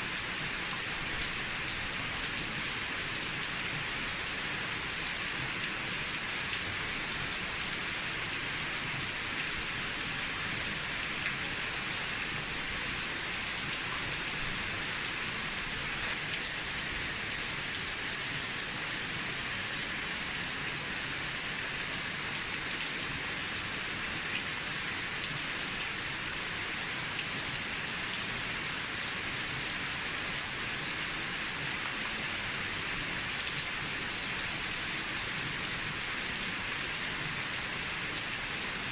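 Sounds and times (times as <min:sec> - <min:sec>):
rain on a rooftop: 0:00.0 - 0:38.9.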